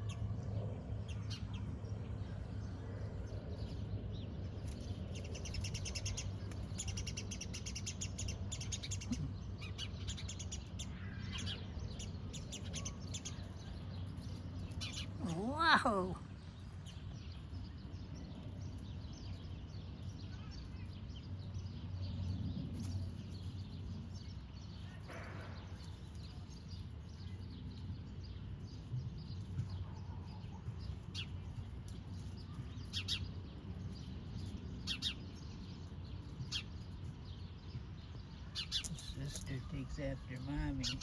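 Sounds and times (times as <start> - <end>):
low background rumble: 0.0 - 41.0
small birds chirping: 0.0 - 41.0.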